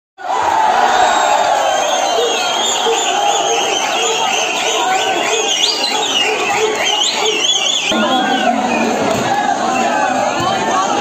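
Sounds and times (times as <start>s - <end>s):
crowd cheering and shouting: 0.2s - 11.0s.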